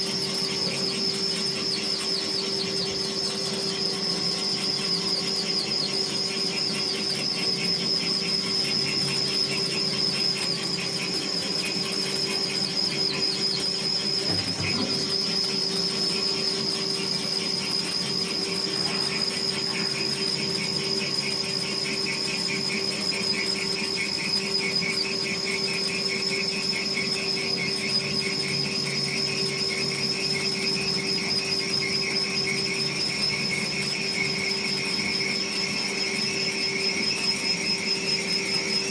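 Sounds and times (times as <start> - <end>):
turning machine running: 0.0 - 38.9.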